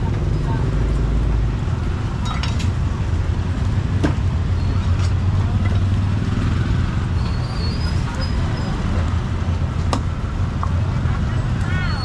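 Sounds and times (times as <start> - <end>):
outdoor street noise: 0.0 - 12.0.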